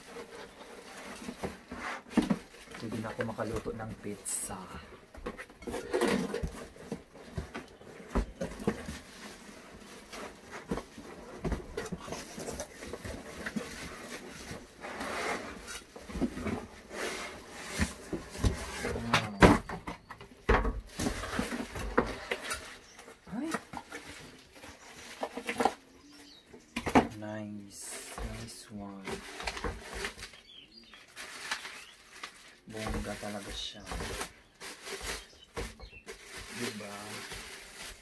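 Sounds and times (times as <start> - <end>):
cardboard and plastic rustling: 0.0 - 38.0.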